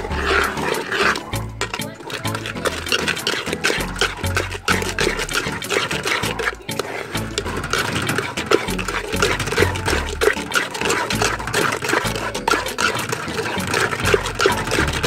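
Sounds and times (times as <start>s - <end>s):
batter sloshing in a pot: 0.0s - 15.0s.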